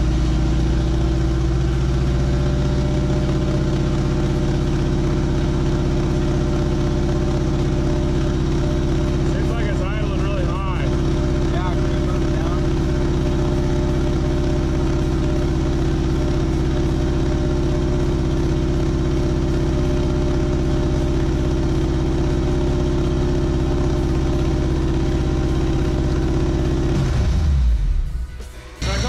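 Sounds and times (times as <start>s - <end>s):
car engine fast idle: 0.0s - 28.2s.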